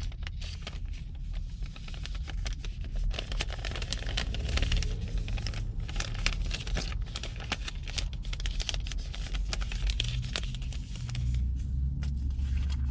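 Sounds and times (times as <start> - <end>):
crinkly material rustling: 0.0 - 12.9
steady low hum: 0.0 - 12.9.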